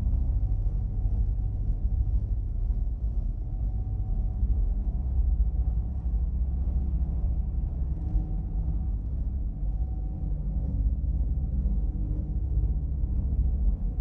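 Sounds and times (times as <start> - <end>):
low sci-fi drone: 0.0 - 14.0.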